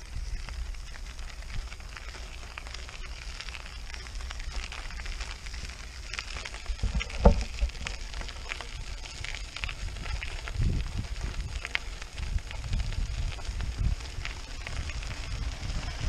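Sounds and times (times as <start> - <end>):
tyre crunching on gravel: 0.0 - 16.0
wind rumbling on microphone: 0.0 - 16.0.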